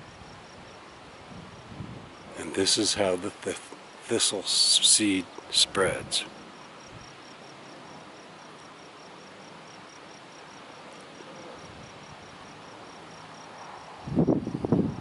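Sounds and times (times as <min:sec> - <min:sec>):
insect chirping: 0:00.0 - 0:15.0
soft outdoor hiss: 0:00.0 - 0:15.0.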